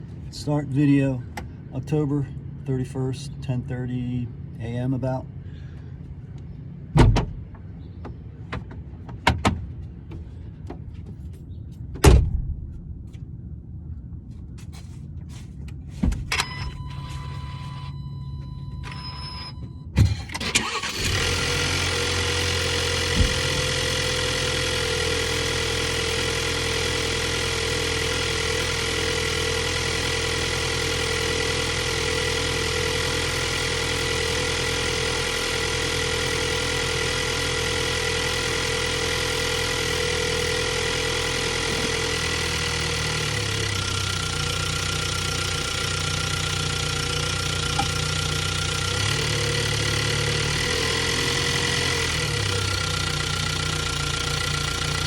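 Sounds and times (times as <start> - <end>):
car engine starting and idling: 0.0 - 55.0.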